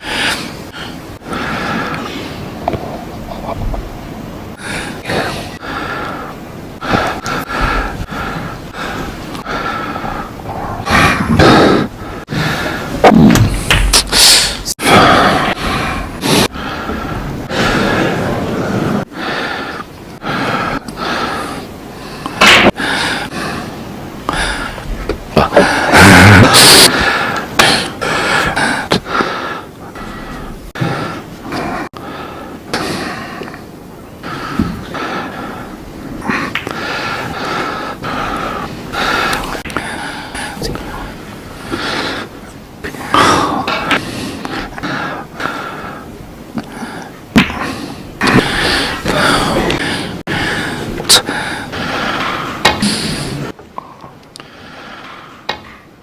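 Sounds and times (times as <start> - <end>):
man breathing heavily: 0.0 - 2.7, 4.5 - 53.6, 54.3 - 55.5.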